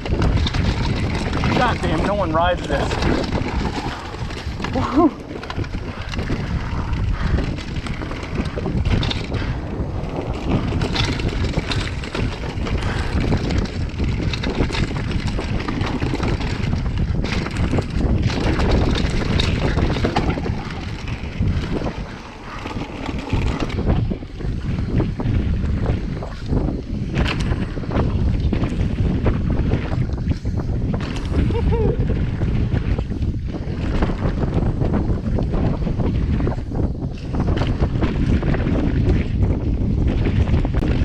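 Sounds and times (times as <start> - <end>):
bike rattling over bumps: 0.0 - 41.0
tyres on dirt trail: 0.0 - 41.0
wind buffeting microphone: 0.0 - 41.0.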